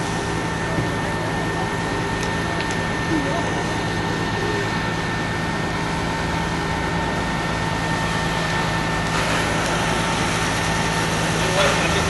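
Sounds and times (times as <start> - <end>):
engine droning with high whine: 0.0 - 12.0.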